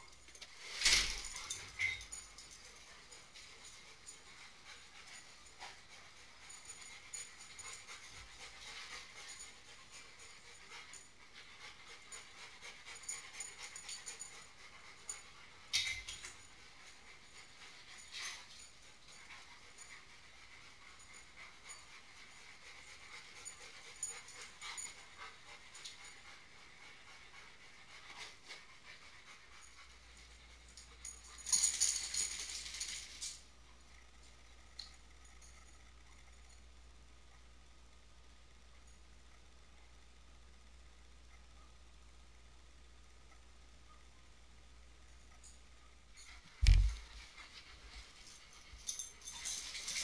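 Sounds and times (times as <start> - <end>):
dogs panting: 0.0 - 36.6, 46.2 - 50.0.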